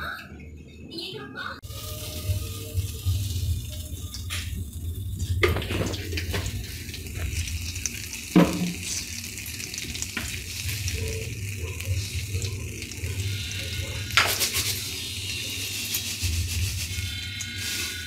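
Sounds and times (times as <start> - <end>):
cooking oil sizzling: 1.6 - 18.0.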